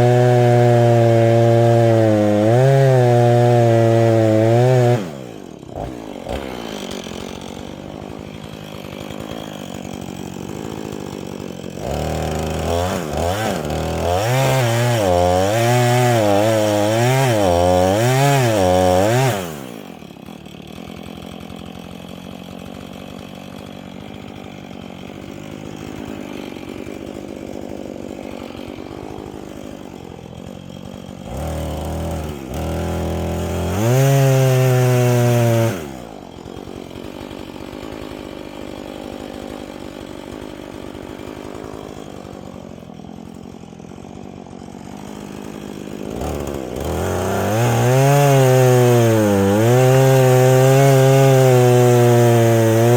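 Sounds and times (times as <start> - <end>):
chainsaw idling and revving: 0.0 - 52.9.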